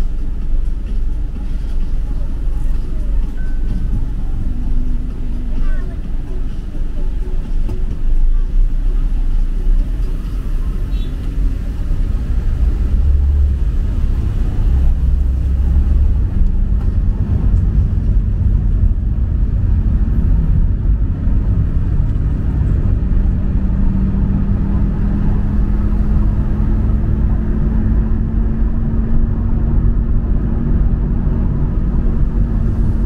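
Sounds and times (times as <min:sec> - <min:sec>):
low engine drone: 0:00.0 - 0:33.0
road traffic rumble: 0:00.0 - 0:33.0.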